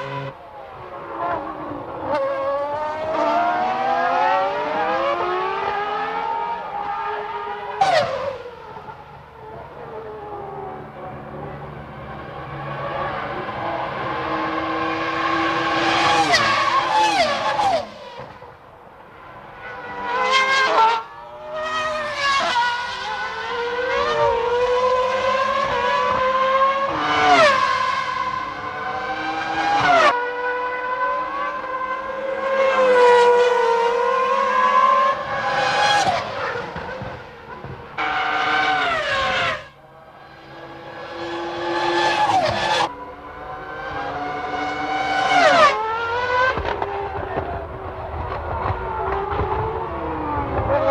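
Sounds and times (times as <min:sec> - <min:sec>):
race cars revving and passing: 0:00.0 - 0:50.9.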